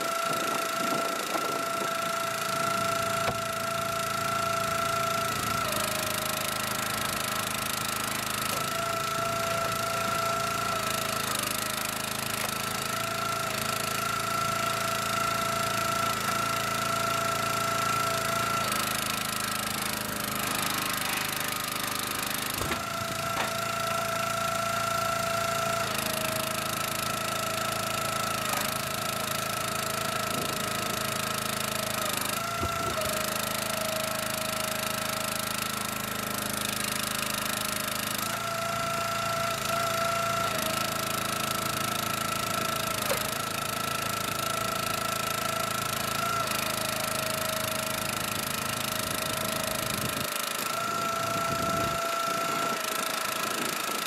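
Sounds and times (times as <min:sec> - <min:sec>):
small gas engine running: 0:00.0 - 0:54.0.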